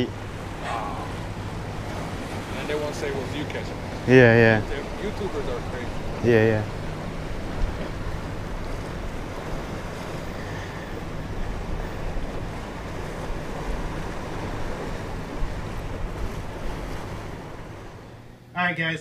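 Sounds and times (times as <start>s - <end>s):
waves washing: 0.0s - 18.5s.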